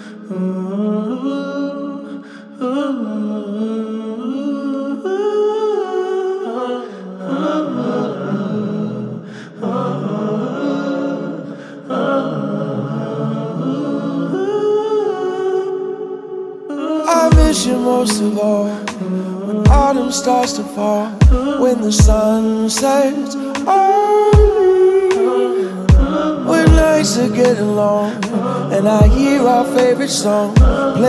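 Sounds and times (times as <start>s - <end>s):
wordless harmony singing: 0.0s - 31.0s.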